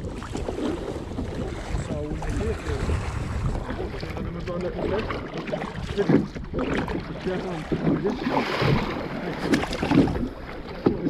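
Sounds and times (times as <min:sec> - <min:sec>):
kayak paddle strokes: 0:00.0 - 0:11.0
water splashing against hull: 0:00.0 - 0:11.0
wind rumble on microphone: 0:00.0 - 0:11.0.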